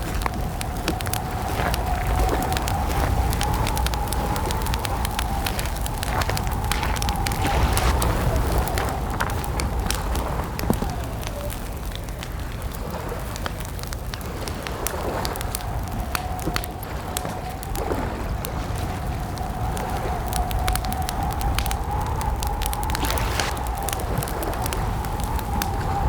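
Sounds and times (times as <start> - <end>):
thin steady whistling tone: 0.0 - 12.1, 14.8 - 26.0
campfire crackling and popping: 0.0 - 26.0
low wind noise: 0.0 - 26.0.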